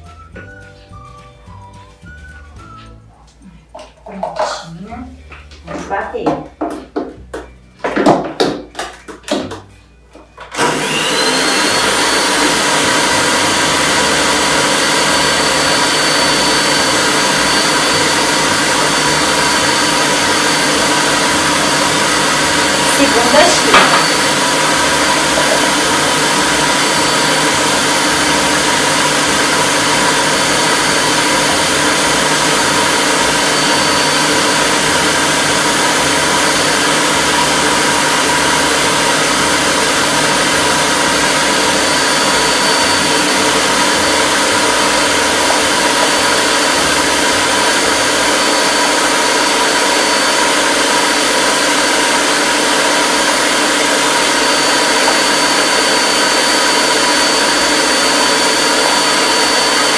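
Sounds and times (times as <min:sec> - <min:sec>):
electric stand mixer running: 0:10.4 - 0:59.9.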